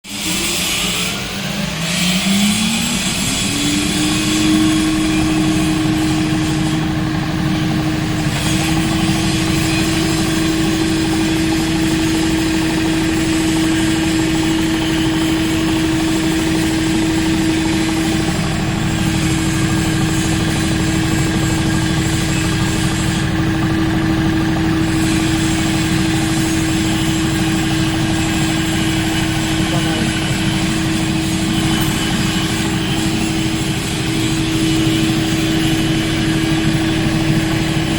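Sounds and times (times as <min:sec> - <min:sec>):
refrigeration compressor running: 0:00.1 - 0:37.9.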